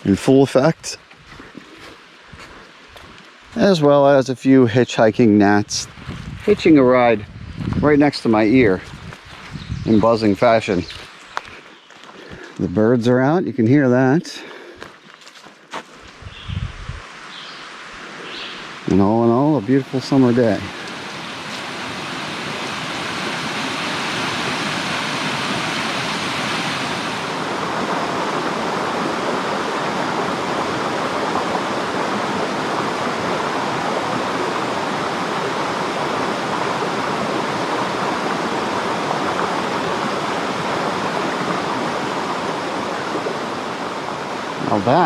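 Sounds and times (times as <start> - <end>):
water rushing in a creek: 0.0 - 45.0.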